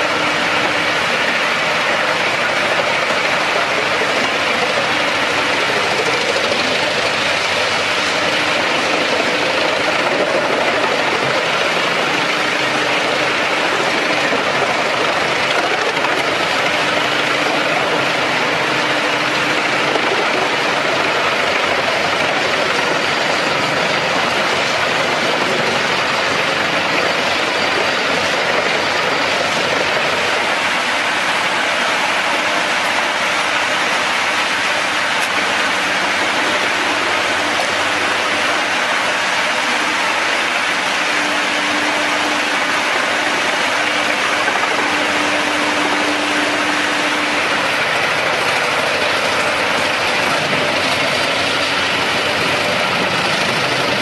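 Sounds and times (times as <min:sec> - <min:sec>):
wood chipper running: 0:00.0 - 0:54.0.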